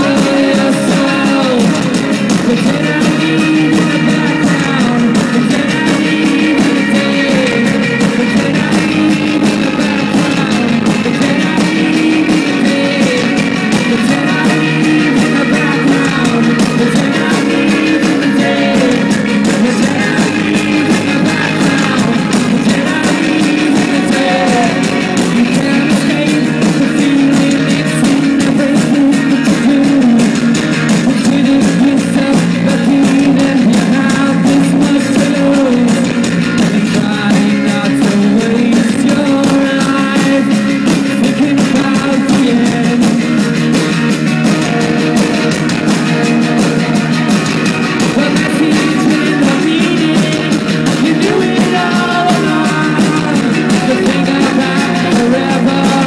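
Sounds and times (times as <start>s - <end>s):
drums: 0.0s - 56.0s
electric guitar: 0.0s - 56.0s
person singing: 0.0s - 56.0s.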